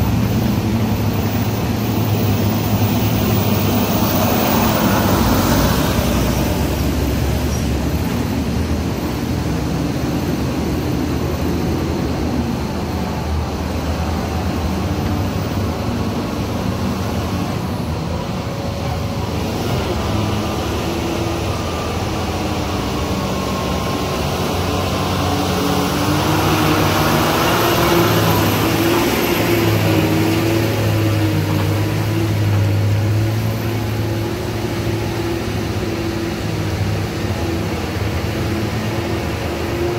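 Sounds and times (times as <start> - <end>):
loaded trucks diesel engines: 0.0 - 39.9.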